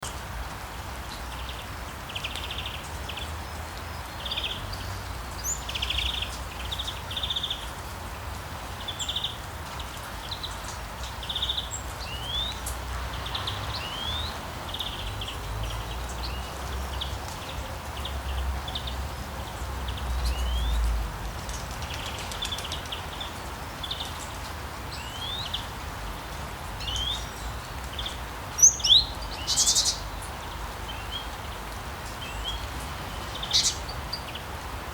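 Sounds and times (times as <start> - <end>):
rain hiss: 0.0 - 34.9
songbirds chirping: 0.0 - 34.9.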